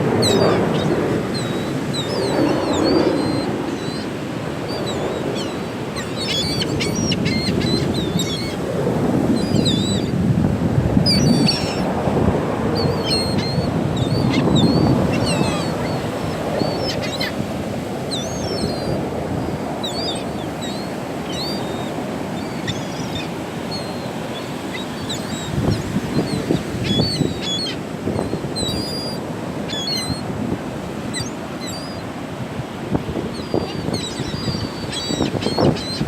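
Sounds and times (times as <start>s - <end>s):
seagulls calling: 0.0s - 10.2s, 11.0s - 12.0s, 12.6s - 36.0s.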